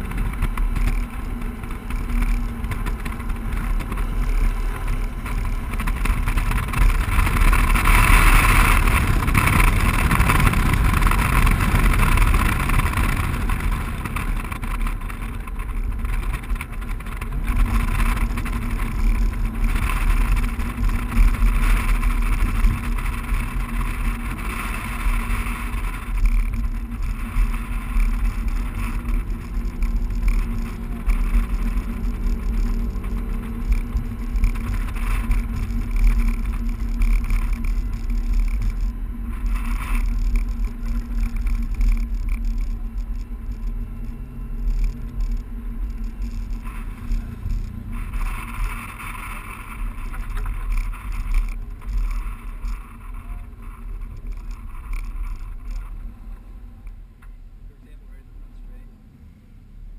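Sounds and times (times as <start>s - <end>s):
car engine hum: 0.0s - 59.9s
wind and road noise: 0.0s - 59.9s.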